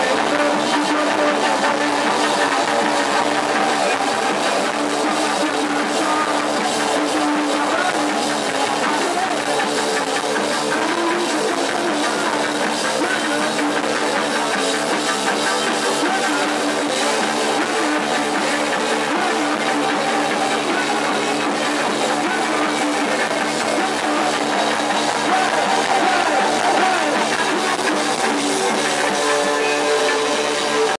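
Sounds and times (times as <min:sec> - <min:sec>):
drum kit: 0:00.0 - 0:30.9
electric guitar: 0:00.0 - 0:30.9.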